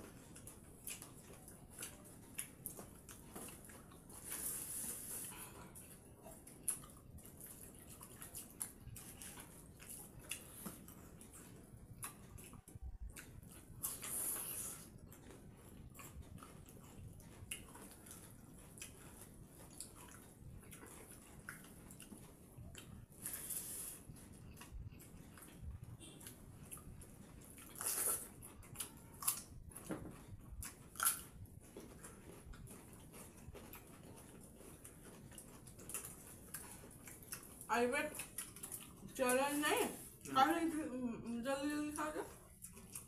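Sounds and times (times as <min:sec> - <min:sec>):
chewing: 0:00.0 - 0:40.9, 0:41.8 - 0:43.0.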